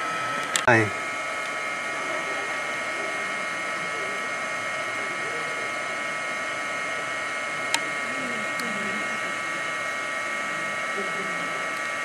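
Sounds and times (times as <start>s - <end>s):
hum of high held tones: 0.0s - 12.0s
faint distant voices: 1.8s - 12.0s.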